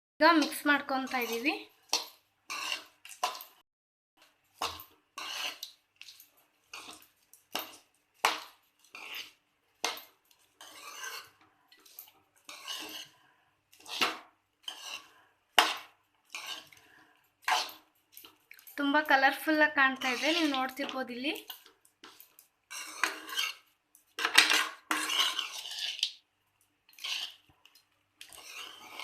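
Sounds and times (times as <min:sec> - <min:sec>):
spoon scraping a cooking pan: 0:00.2 - 0:03.6, 0:04.2 - 0:29.0.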